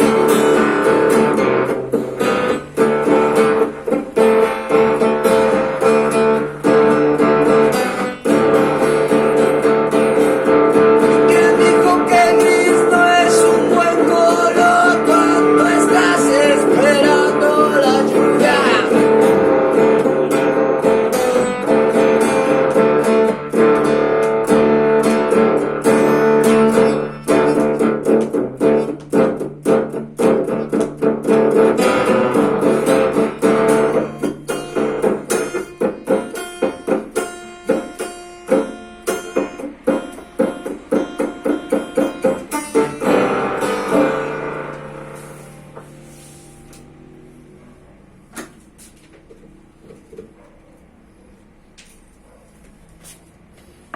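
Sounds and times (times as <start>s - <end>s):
plucked guitar music: 0.0s - 51.6s.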